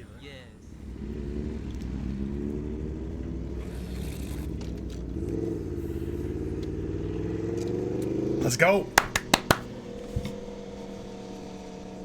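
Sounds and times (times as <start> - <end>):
motorbike engine accelerating: 0.6 - 12.0.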